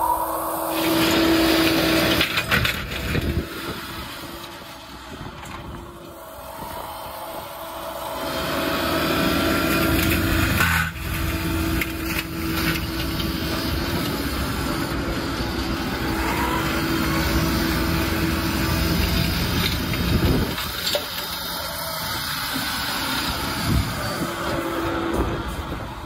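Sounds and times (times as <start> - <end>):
excavator engine with flail mower: 0.0 - 26.0.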